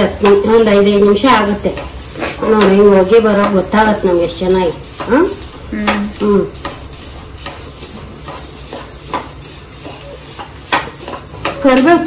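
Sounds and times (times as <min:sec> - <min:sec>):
roasting seeds rustling: 0:00.0 - 0:12.0
spatula scraping and knocking pan: 0:00.0 - 0:12.0.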